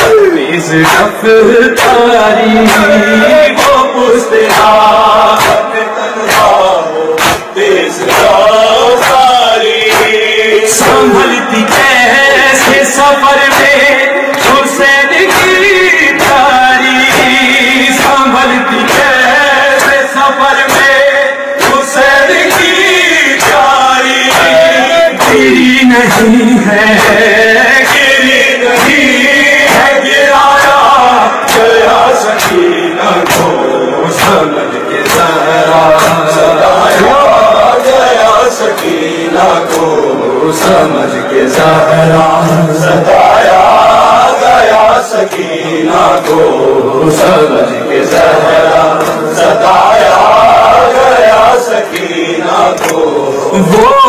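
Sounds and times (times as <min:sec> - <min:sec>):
man chanting into a microphone: 0:00.0 - 0:54.0
chest-beating slaps: 0:01.8 - 0:16.4, 0:17.0 - 0:21.0, 0:21.6 - 0:46.6, 0:48.1 - 0:53.1.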